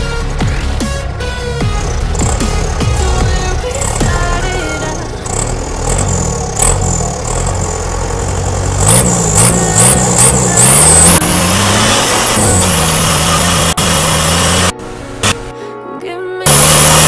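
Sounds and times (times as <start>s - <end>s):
diesel truck engine revving: 0.0s - 15.5s, 16.4s - 17.0s.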